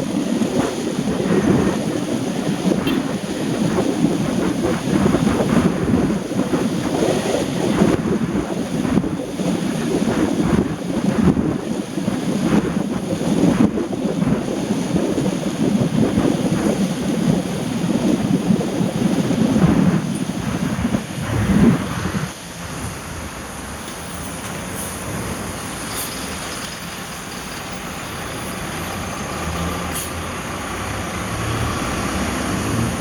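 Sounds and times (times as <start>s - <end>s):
heavy rain rushing: 0.0s - 33.0s
wind buffeting microphone: 0.0s - 33.0s.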